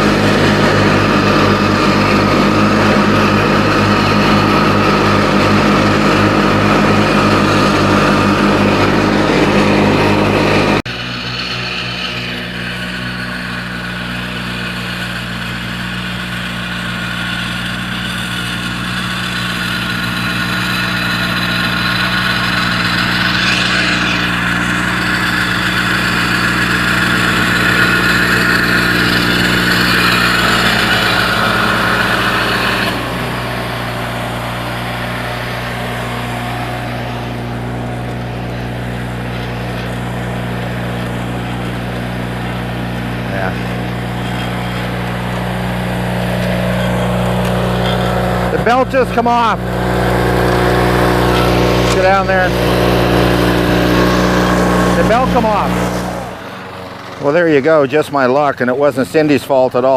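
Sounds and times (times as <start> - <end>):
lawn tractor engine mowing: 0.0 - 59.9.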